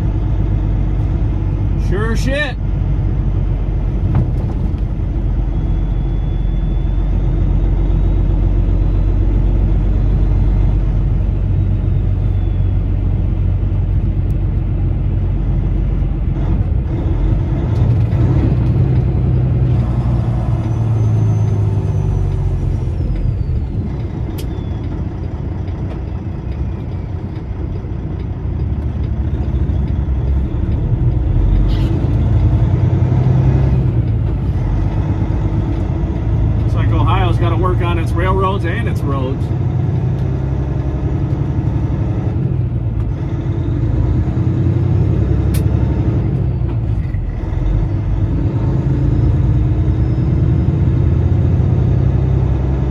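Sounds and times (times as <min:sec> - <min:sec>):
truck diesel engine rumbling: 0:00.0 - 0:52.9.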